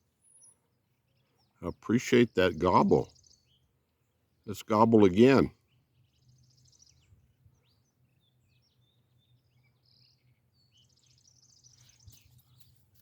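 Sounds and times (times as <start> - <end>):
songbird chirps: 0.0 - 13.0.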